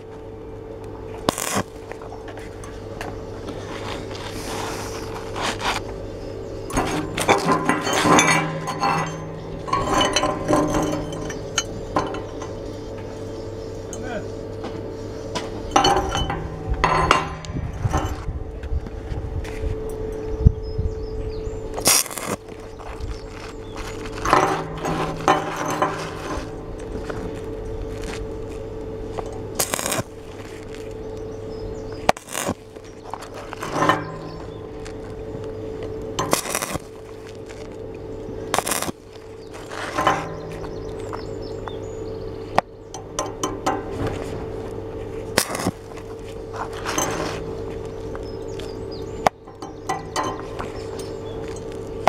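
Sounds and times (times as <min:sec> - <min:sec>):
arc welding crackling: 0:00.0 - 0:20.1, 0:21.6 - 0:52.0
steady low hum: 0:00.0 - 0:52.0.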